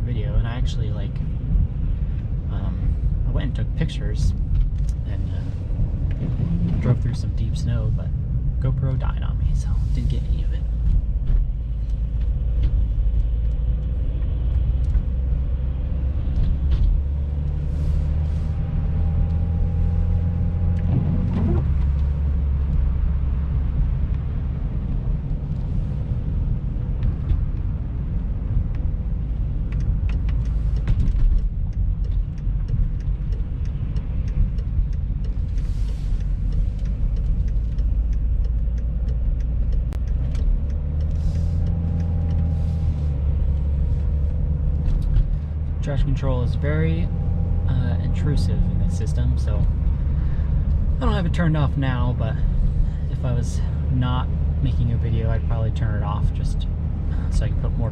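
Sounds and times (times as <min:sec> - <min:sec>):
car engine and tyre rumble: 0:00.0 - 0:57.9.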